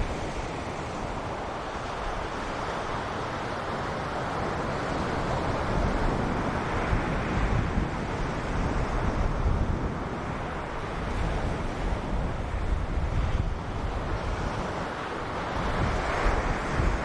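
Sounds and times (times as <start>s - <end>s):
ocean surf washing onto beach: 0.0s - 17.0s
wind rumbling on microphone: 0.0s - 17.0s.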